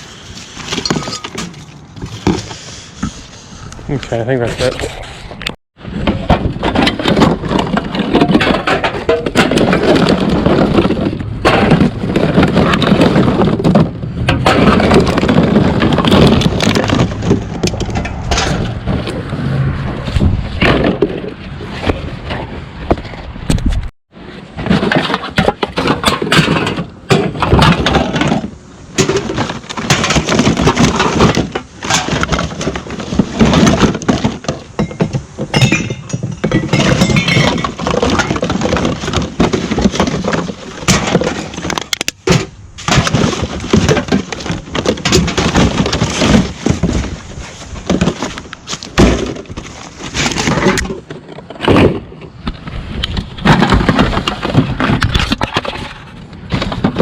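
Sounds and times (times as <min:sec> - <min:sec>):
scrap objects clattering: 0:00.0 - 0:23.4, 0:24.1 - 0:57.0.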